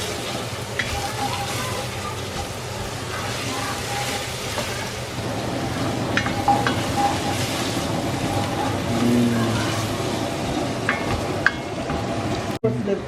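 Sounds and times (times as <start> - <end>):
vegetables sizzling in hot oil: 0.0 - 12.6.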